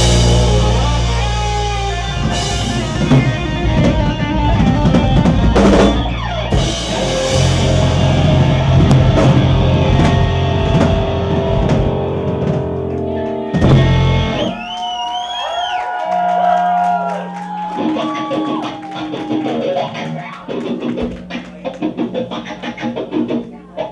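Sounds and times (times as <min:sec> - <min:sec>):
rock band playing live: 0:00.0 - 0:14.8, 0:17.2 - 0:23.9.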